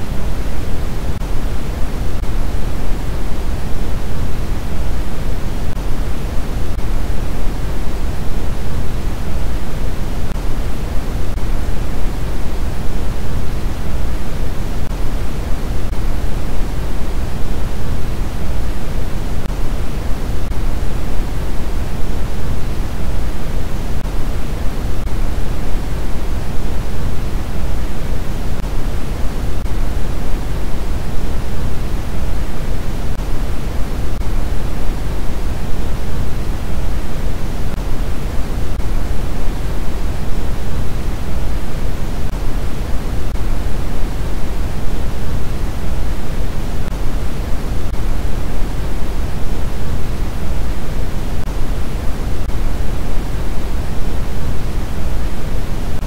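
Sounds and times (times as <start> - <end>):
steady noise hiss: 0.0 - 56.0.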